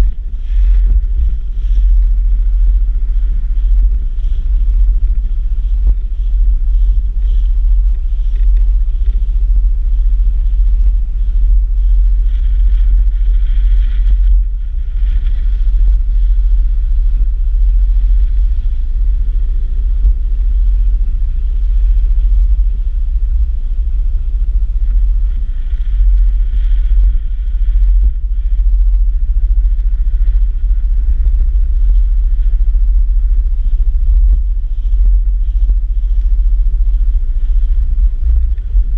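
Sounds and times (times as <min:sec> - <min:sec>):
gusting wind buffeting microphone: 0:00.0 - 0:38.9.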